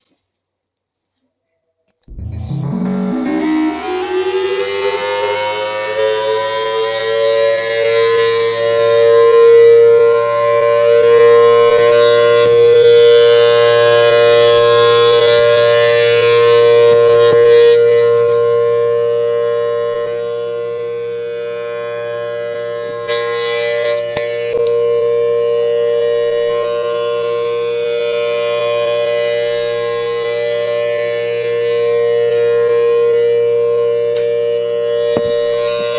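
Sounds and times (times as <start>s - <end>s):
outdoor warning siren steady tone: 2.1s - 35.9s.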